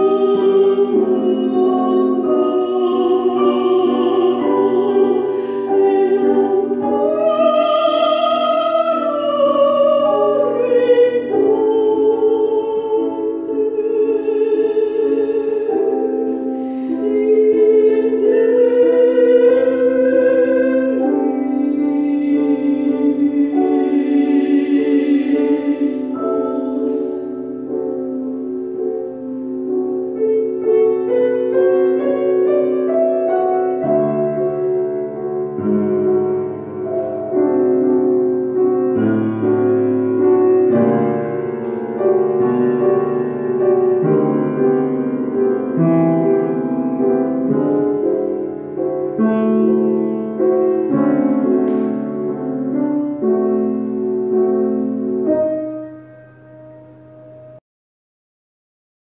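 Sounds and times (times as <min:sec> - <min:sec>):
person singing with vibrato: 0:00.0 - 0:57.1
piano chords: 0:00.0 - 0:57.6.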